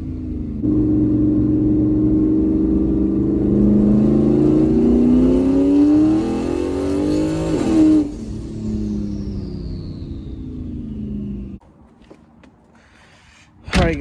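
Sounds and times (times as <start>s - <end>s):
car engine accelerating: 0.0s - 11.6s.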